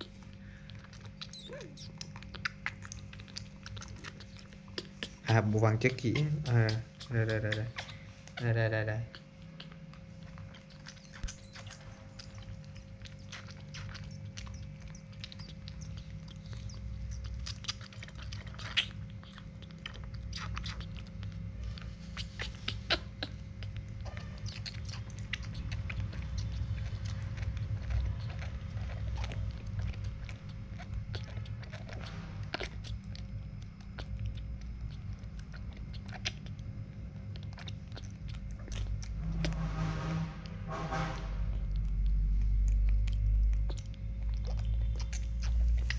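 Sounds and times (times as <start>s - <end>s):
baby monkey sucking bottle: 0.0s - 40.6s, 41.2s - 45.9s
steady low hum: 0.0s - 45.9s.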